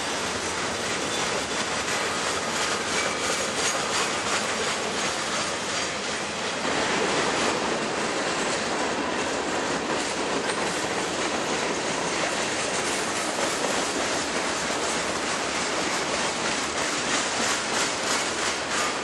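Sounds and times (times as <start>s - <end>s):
freight train wheels on rail: 0.0s - 19.0s.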